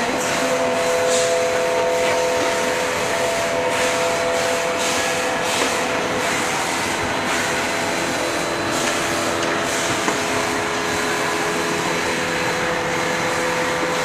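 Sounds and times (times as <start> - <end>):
electric air blower running: 0.0 - 14.0.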